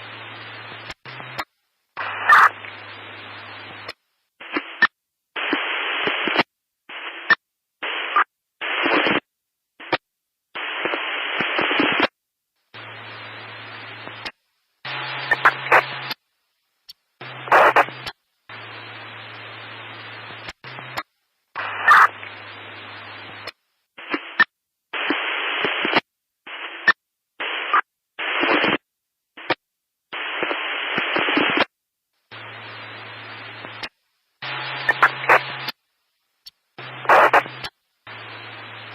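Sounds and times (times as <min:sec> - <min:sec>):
static hiss bursts: 0:00.0 - 0:10.0, 0:10.6 - 0:38.9.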